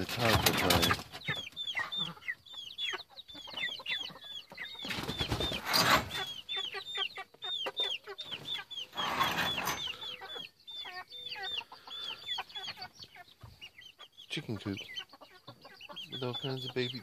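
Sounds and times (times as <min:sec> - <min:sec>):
baby chicks peeping: 0:00.0 - 0:17.0.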